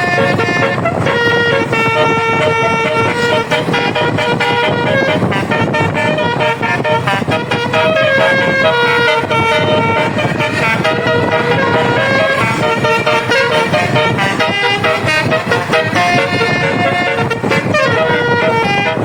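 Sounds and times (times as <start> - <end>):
multi-note air horn melody: 0.0 - 19.0.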